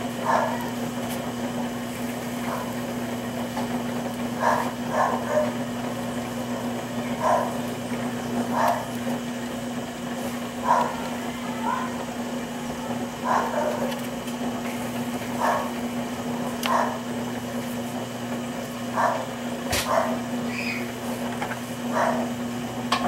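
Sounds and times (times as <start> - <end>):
potter's wheel motor humming: 0.0 - 23.0.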